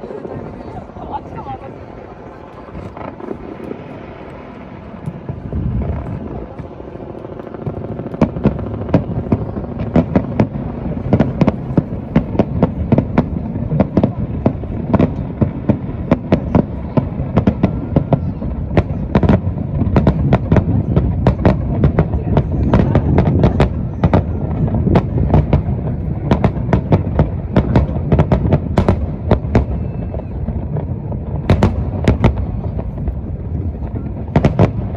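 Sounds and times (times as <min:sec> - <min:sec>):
fireworks bangs: 0:00.0 - 0:34.9
low rumble of explosions: 0:00.0 - 0:34.9.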